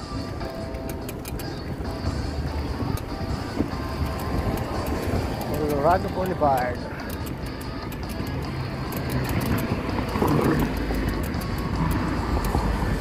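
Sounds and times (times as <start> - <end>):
music playing: 0.0 - 13.0
street traffic noise: 0.0 - 13.0.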